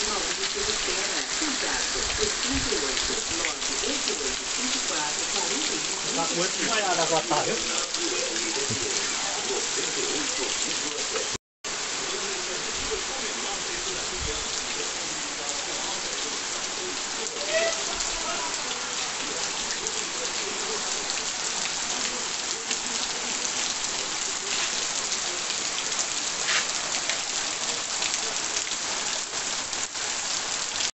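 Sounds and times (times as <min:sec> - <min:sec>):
rain falling on trees: 0:00.0 - 0:30.9.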